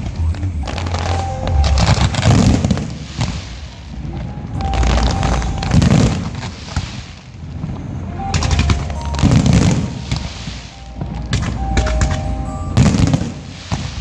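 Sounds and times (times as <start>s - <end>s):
fireworks cracking and booming: 0.0s - 14.0s.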